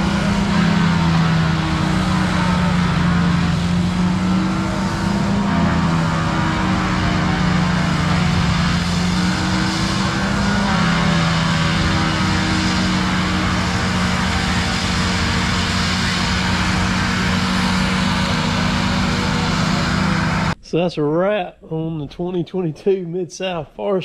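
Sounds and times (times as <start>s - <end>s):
engine running with loud drone: 0.0s - 20.6s.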